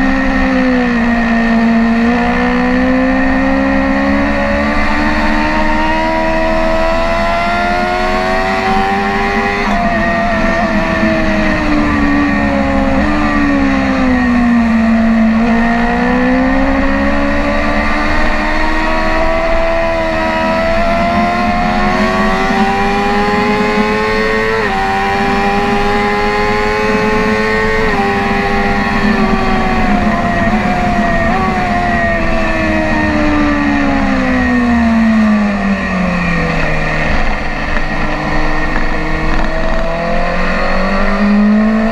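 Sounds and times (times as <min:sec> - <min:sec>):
motorcycle engine revving high: 0:00.0 - 0:41.9
wind rush: 0:03.2 - 0:41.9.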